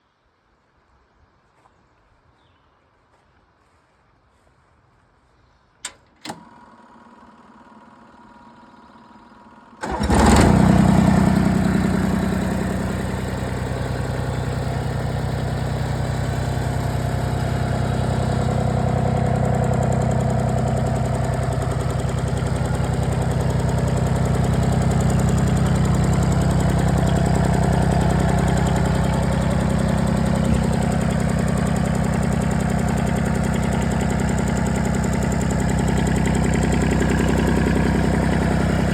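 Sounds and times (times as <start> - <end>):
diesel engine starting and idling: 6.2 - 38.9.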